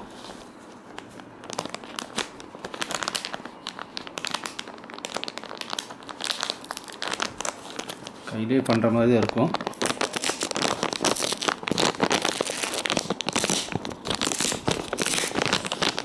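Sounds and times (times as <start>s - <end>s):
plastic pouch crinkling: 0.0s - 16.0s.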